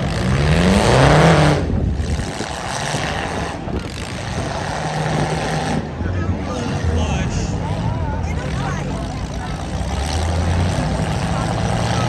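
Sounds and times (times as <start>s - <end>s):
car engines running loud: 0.0s - 12.0s.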